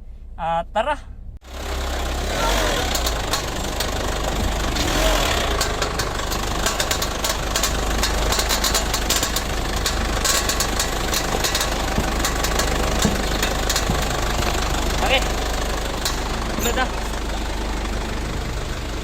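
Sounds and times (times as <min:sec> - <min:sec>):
car engine idling: 0:01.4 - 0:19.0
knocking and clicking from engine: 0:01.5 - 0:19.0.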